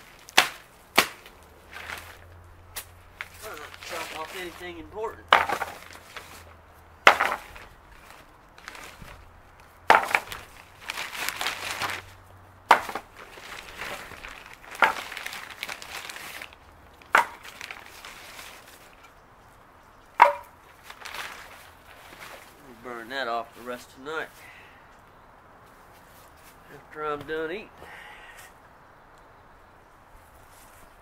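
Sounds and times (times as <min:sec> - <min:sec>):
rustling and handling noise: 0:00.0 - 0:24.4, 0:25.6 - 0:27.5, 0:30.2 - 0:31.0.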